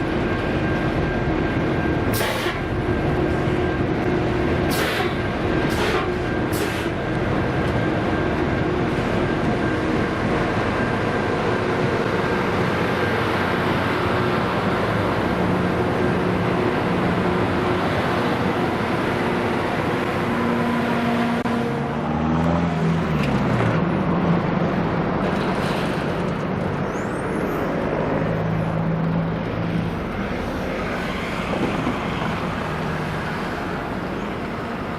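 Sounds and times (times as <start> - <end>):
diesel engines running: 0.0 - 34.9.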